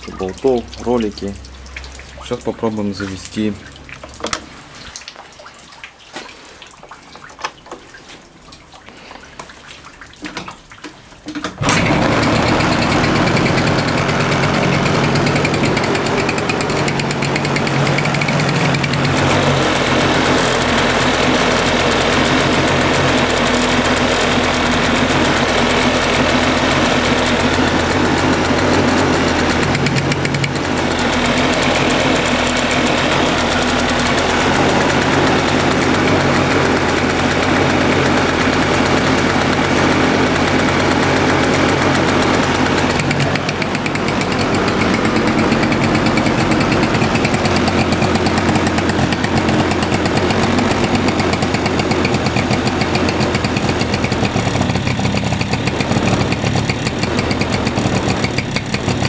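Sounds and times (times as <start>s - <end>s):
engine ticking: 11.6s - 59.0s
scooter engine running: 11.6s - 59.0s.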